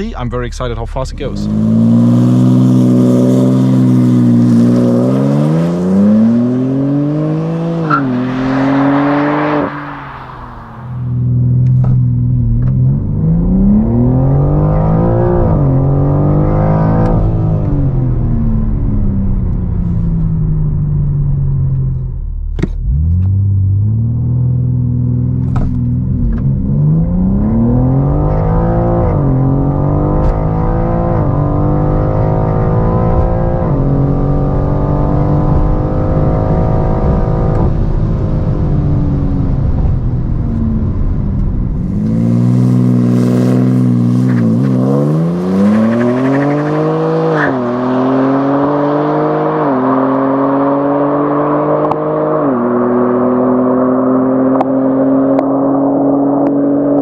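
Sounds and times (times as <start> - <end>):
wind and tyre noise: 1.2 - 57.0
car engine revving through gears: 1.3 - 20.3, 21.6 - 57.0.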